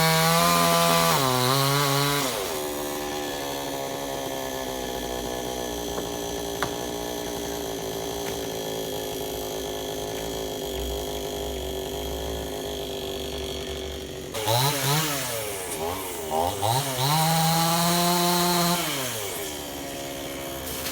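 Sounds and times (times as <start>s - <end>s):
chainsaw revving: 0.0s - 20.9s.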